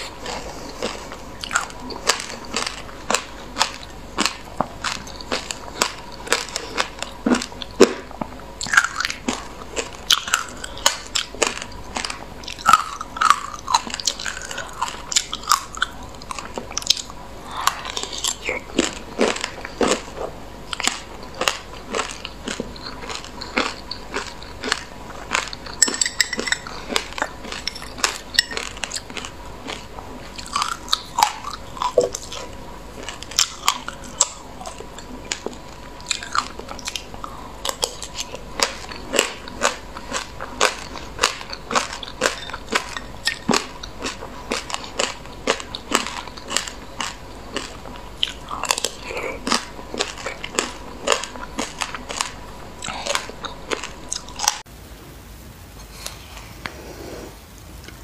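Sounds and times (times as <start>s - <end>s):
person chewing crunchy seeds: 0.0s - 54.7s.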